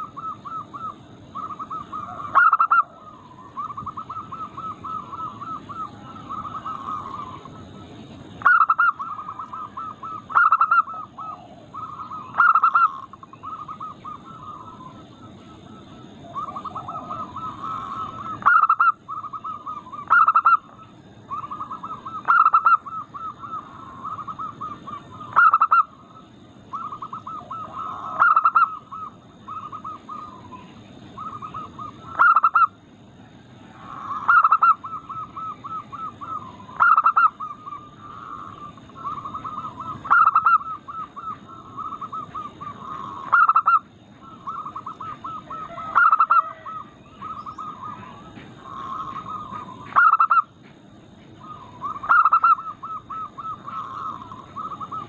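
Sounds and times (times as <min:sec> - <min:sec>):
sharp dove call: 0:00.0 - 0:07.8, 0:08.4 - 0:26.0, 0:26.7 - 0:32.8, 0:33.6 - 0:50.6, 0:51.4 - 0:55.0
doves rolling coos: 0:00.0 - 0:55.0.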